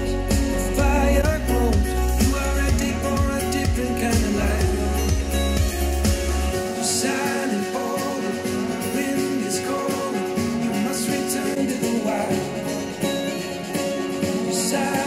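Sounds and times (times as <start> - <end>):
guitar song through speakers: 0.0 - 15.0.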